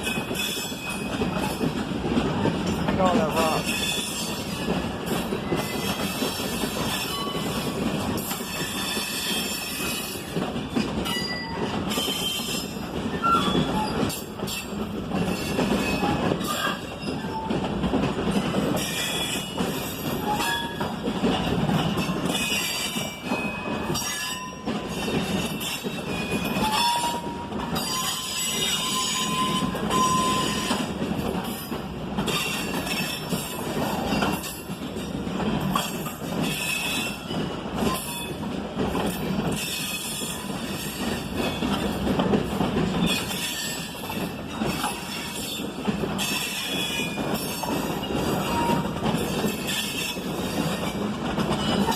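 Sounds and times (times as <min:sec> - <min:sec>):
train wheels rumbling over rails: 0:00.0 - 0:51.9.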